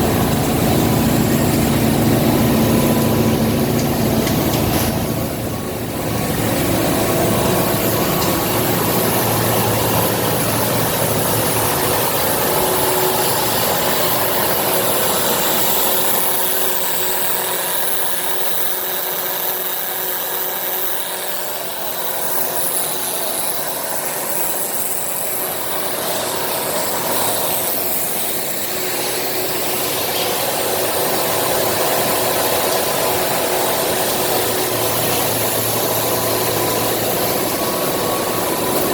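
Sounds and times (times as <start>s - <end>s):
recycling machinery humming: 0.0s - 38.9s.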